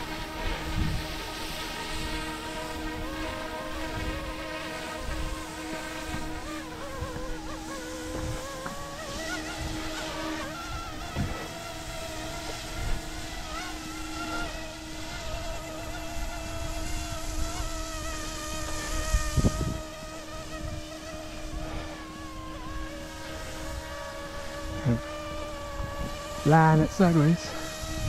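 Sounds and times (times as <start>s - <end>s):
rc helicopter whining: 0.0s - 28.0s.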